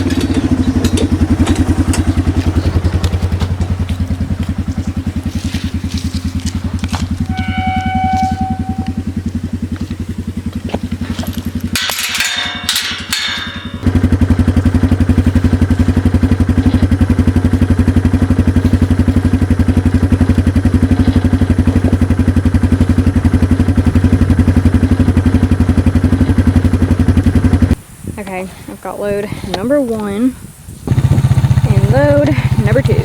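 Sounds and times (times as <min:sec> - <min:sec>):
clattering and rattling: 0:00.0 - 0:27.8
small engine running: 0:00.0 - 0:28.1, 0:29.4 - 0:33.0.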